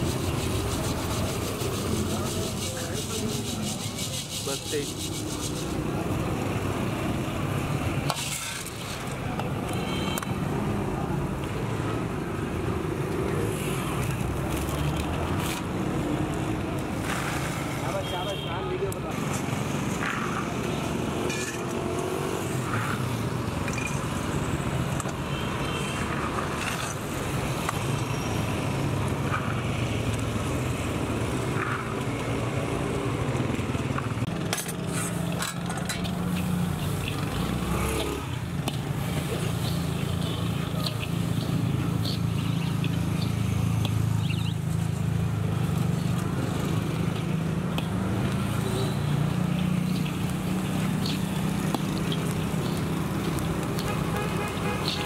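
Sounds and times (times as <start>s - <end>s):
traffic engine drone: 0.0s - 55.0s.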